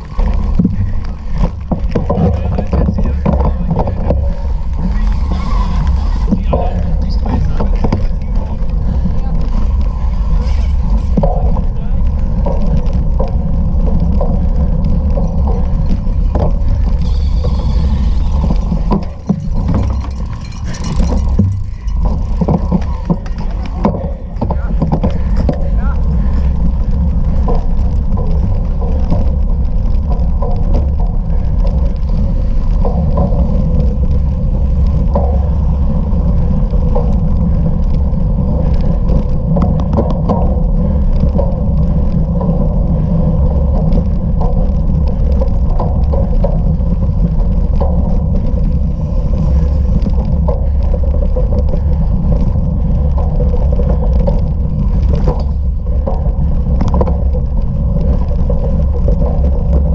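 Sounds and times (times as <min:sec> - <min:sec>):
bicycle tyres on rough ground: 0:00.0 - 0:59.9
bike rattling and knocking: 0:00.0 - 0:59.9
wind on microphone: 0:00.0 - 0:59.9.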